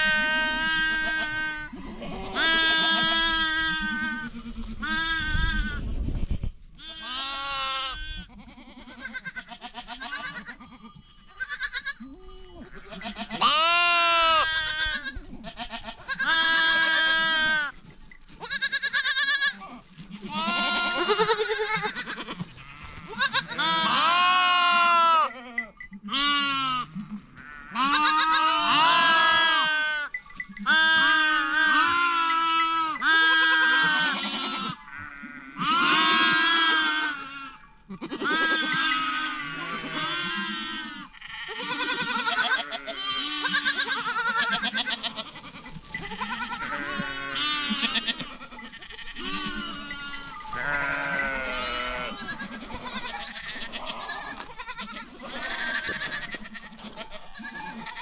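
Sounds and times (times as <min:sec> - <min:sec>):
goats and sheep bleating: 0:00.0 - 0:05.9, 0:06.8 - 0:58.0.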